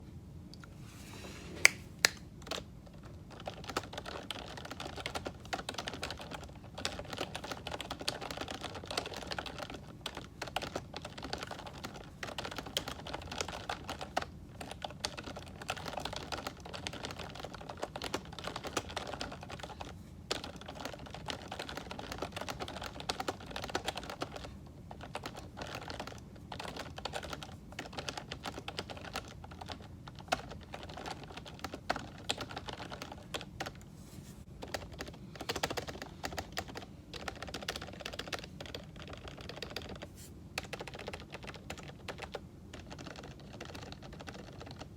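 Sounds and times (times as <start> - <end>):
fast typing on keyboard: 2.4 - 33.9, 34.5 - 44.9.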